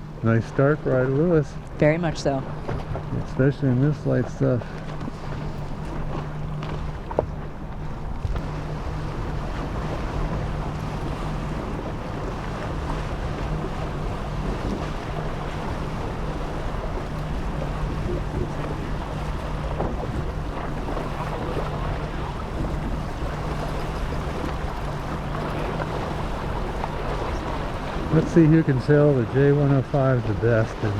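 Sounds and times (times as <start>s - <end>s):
boat engine humming: 0.0s - 30.9s
water noise: 0.0s - 30.9s
wind buffeting microphone: 1.8s - 30.9s.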